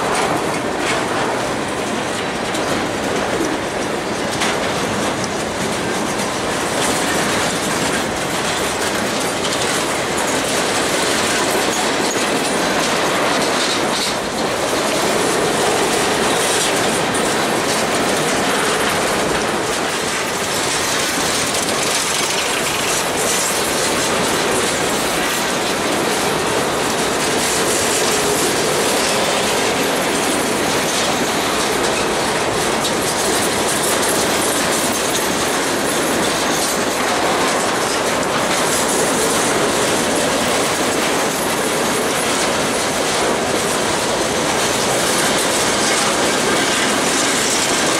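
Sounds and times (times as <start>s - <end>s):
train wheels on rail: 0.0s - 47.9s.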